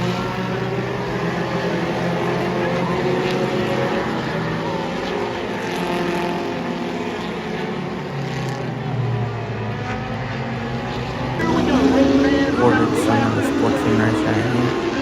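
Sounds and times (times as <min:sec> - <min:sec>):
race car engines circling: 0:00.0 - 0:15.0.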